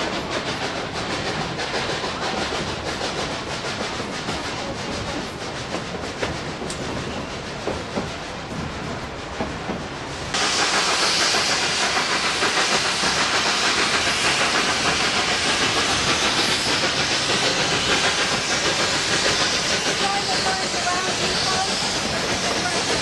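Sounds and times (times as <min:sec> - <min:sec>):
steam locomotive hissing: 0:00.0 - 0:23.0
train rolling on rails: 0:00.0 - 0:23.0.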